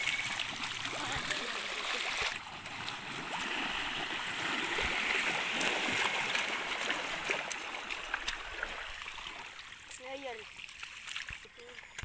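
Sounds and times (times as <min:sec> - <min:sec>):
muddy water rushing and splashing: 0:00.0 - 0:12.0.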